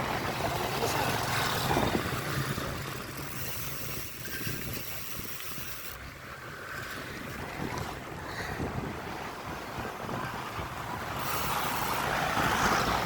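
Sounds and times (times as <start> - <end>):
vehicle and road noise: 0.0 - 13.0.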